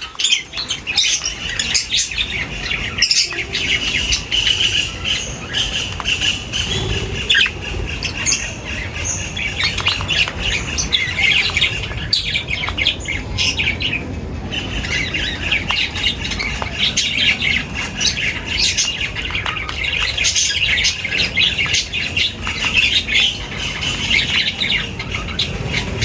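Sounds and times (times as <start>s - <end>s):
birds chirping and squawking: 0.0s - 26.0s.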